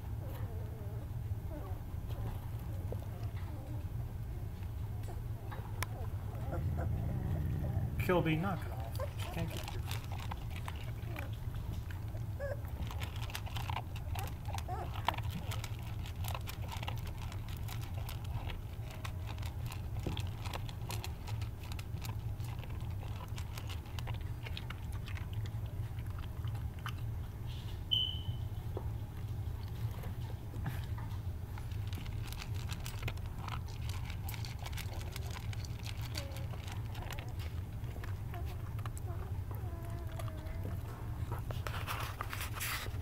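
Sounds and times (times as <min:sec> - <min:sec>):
dog crunching dry kibble: 0:01.6 - 0:43.0.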